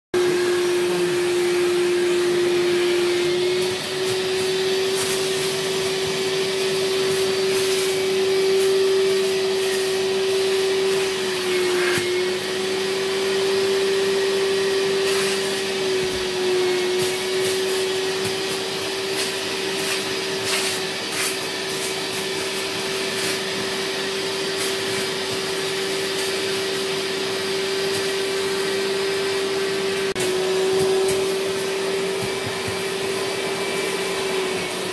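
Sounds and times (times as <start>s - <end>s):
air rushing through hand tool: 0.2s - 34.9s
vacuum motor whining: 0.2s - 34.9s.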